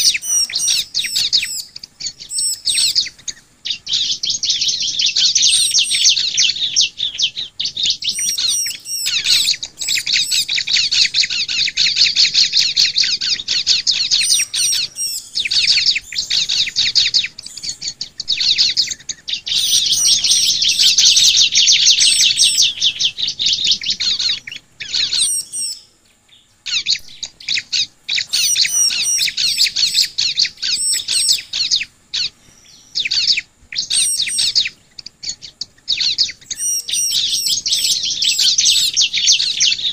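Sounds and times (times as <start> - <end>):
rapid chattering bird chirps: 0.0 - 39.9.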